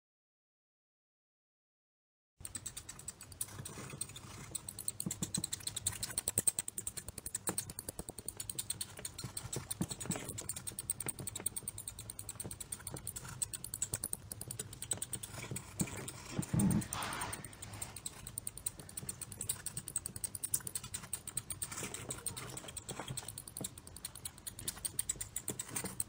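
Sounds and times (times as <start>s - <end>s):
mice scurrying: 2.5s - 26.0s.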